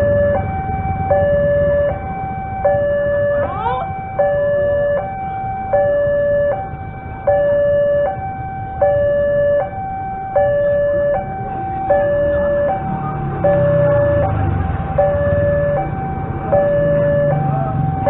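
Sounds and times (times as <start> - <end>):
level crossing two-tone alarm: 0.0 - 18.0
motorcycle engine rumble: 0.0 - 18.0.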